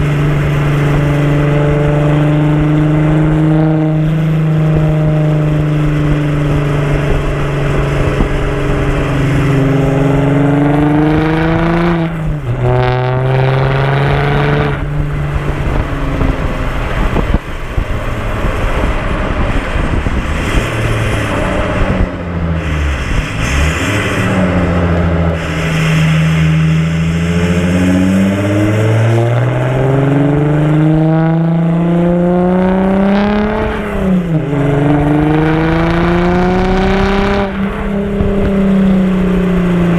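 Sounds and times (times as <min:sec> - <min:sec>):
diesel engine revving while driving: 0:00.0 - 0:39.9.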